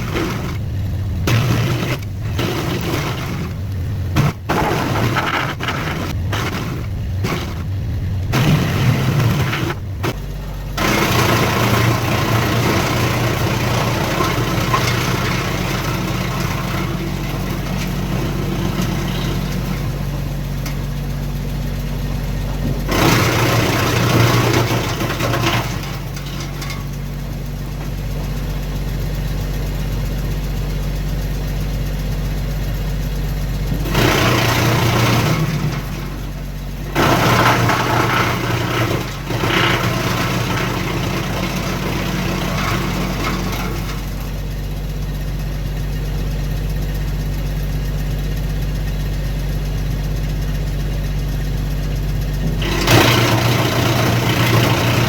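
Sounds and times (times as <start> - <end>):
tractor engine hum: 0.0 - 55.0
wood chipper chipping branches: 0.0 - 55.0.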